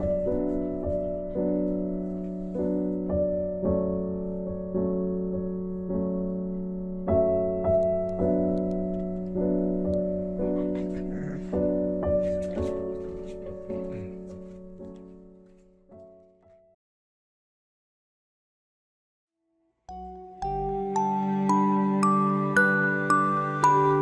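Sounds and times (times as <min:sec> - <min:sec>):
gentle piano melody: 0:00.0 - 0:16.8, 0:19.9 - 0:24.0.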